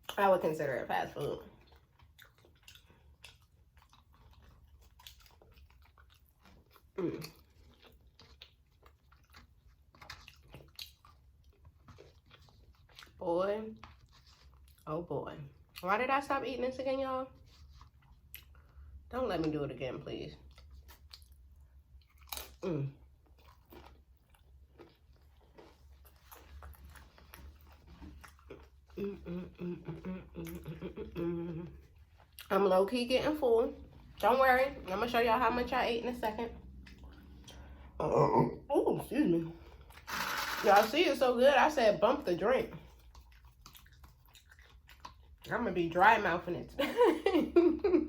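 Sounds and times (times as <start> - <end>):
wet chewing with mouth clicks: 1.0 - 16.1, 17.3 - 19.6, 20.3 - 38.0, 39.5 - 46.3.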